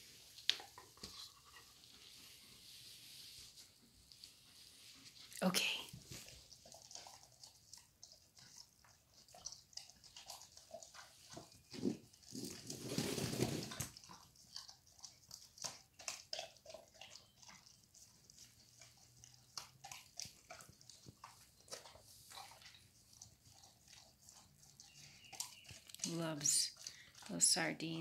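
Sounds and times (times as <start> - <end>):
dog chewing meat: 0.2 - 2.3, 5.9 - 12.9, 13.7 - 28.0.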